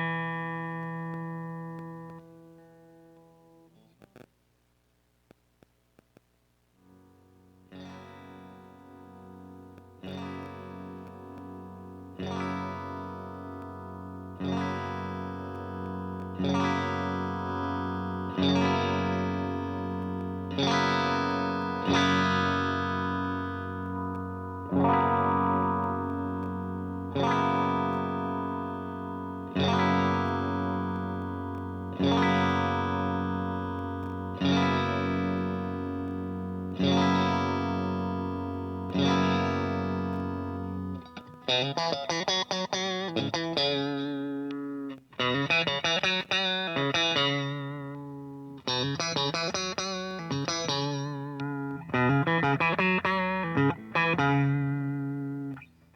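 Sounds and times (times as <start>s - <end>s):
electric guitar strumming chords: 0.0s - 4.2s, 6.8s - 55.9s.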